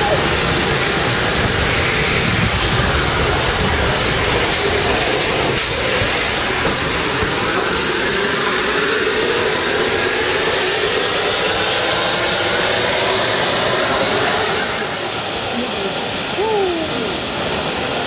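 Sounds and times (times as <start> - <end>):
steam hissing from locomotive: 0.0 - 18.0.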